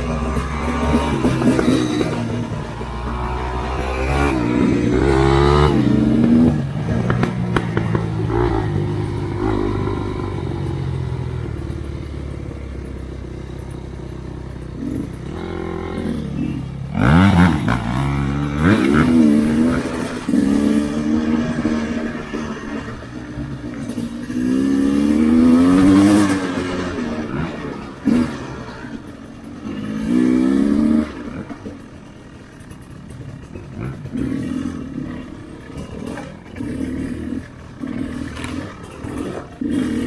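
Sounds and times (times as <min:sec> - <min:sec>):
off-road motorcycle engine revving: 0:00.0 - 0:40.0.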